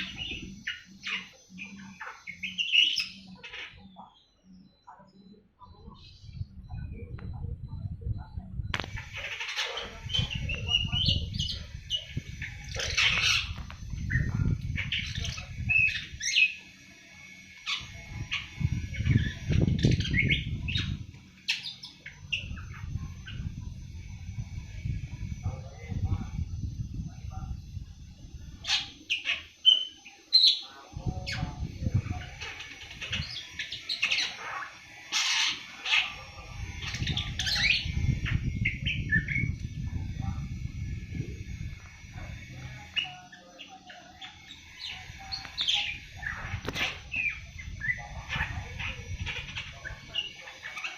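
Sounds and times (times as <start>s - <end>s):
young bird twittering: 0.0s - 25.5s, 28.5s - 50.9s.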